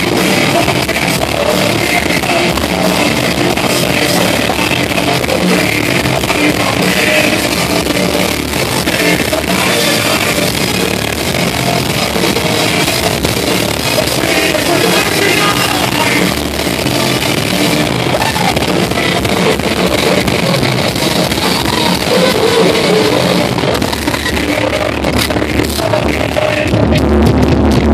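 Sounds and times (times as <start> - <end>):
live rock band playing: 0.0 - 27.9
person singing: 0.0 - 27.9.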